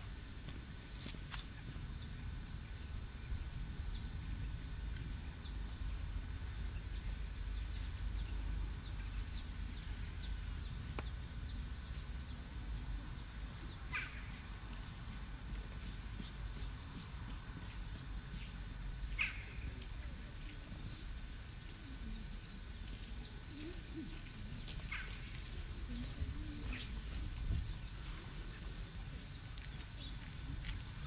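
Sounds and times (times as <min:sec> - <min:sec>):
wind rumble on microphone: 0:00.0 - 0:18.3, 0:23.2 - 0:31.0
birds chirping: 0:01.5 - 0:19.8, 0:21.8 - 0:31.0.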